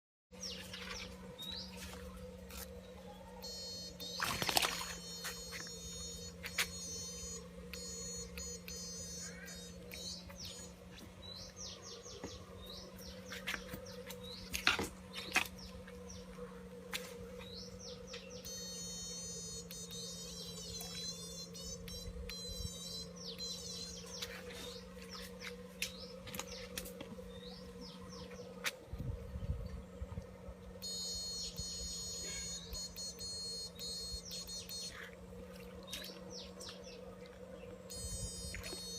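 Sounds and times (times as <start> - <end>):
birds chirping: 0.3 - 38.9
steady low hum: 0.3 - 38.9.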